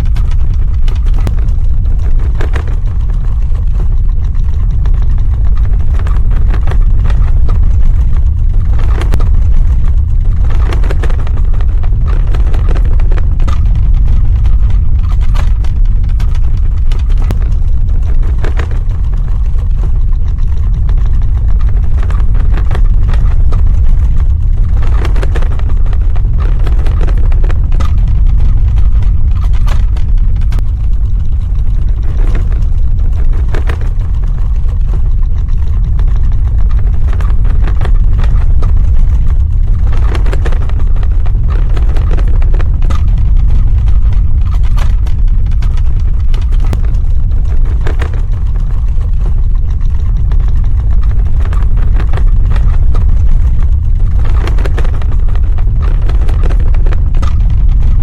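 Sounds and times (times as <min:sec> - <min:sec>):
deep earthquake rumble: 0:00.0 - 0:58.0
faint crackles: 0:00.0 - 0:58.0.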